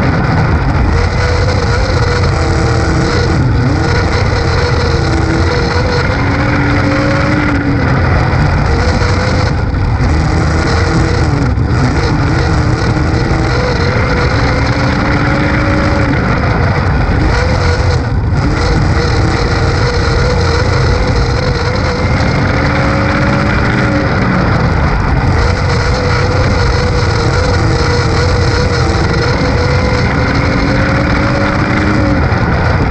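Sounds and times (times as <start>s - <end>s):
race car engine revving: 0.0s - 32.9s.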